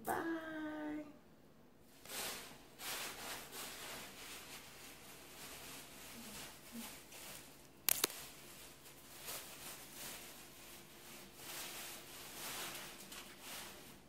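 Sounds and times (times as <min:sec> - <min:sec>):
faint rustling and handling: 0:01.8 - 0:14.0.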